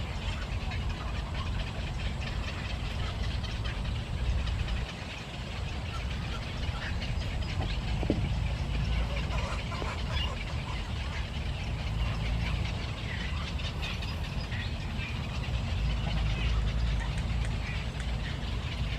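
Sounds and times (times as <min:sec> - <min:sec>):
faint bird calls: 0:00.0 - 0:18.9
steady low rumble: 0:00.0 - 0:18.9.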